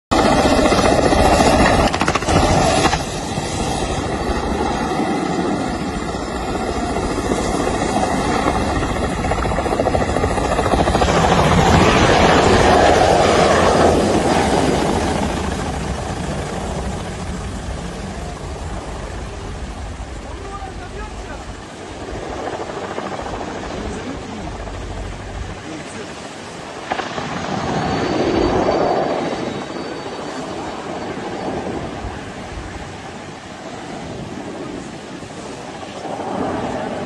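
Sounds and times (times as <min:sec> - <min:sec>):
helicopter rotor chop: 0:00.1 - 0:37.0
steady high whine: 0:00.1 - 0:37.0.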